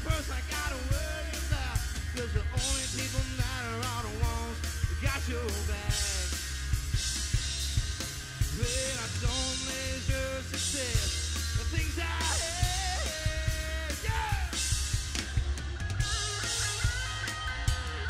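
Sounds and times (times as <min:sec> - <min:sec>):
bending lead guitar line: 0:00.0 - 0:18.0
live rock band playing: 0:00.0 - 0:18.0.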